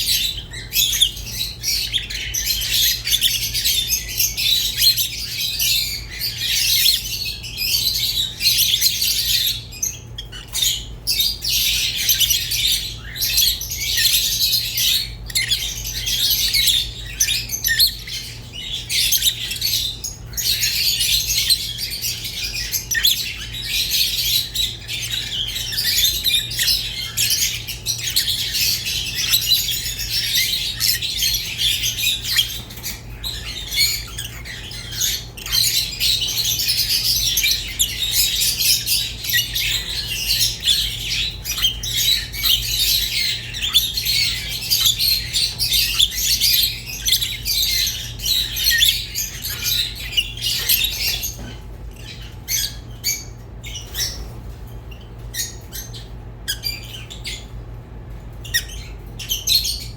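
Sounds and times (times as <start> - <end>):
lovebirds chirping and squawking: 0.0 - 59.9
low electrical hum: 0.0 - 59.9.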